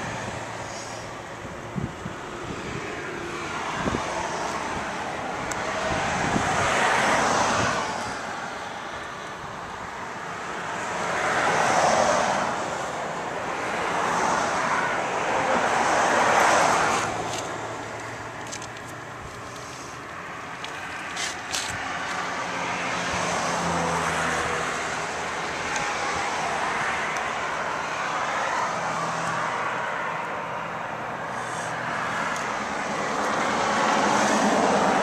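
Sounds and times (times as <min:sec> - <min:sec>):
vehicles passing by: 0:00.0 - 0:35.0.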